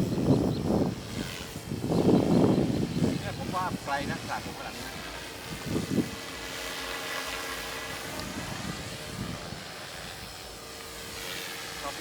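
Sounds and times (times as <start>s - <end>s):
model airplane motor drone: 0.0s - 12.0s.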